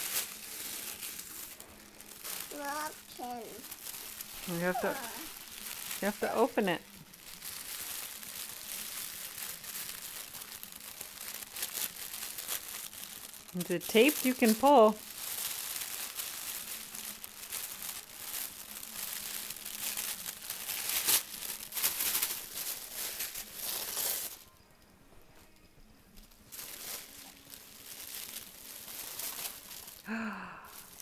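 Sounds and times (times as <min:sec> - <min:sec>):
tissue paper crinkling: 0:00.0 - 0:24.5, 0:26.1 - 0:31.0.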